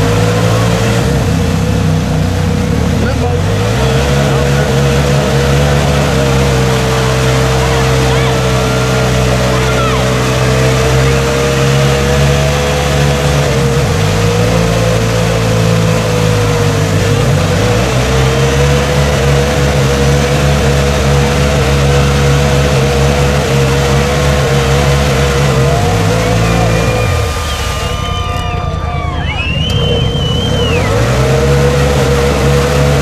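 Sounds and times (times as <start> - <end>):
tires spinning in mud: 0.0 - 33.0
utv engine running hard: 0.0 - 33.0.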